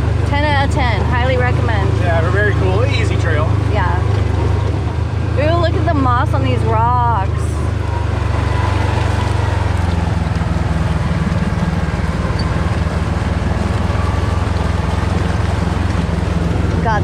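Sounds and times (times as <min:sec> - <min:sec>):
vehicle engine low drone: 0:00.0 - 0:17.0.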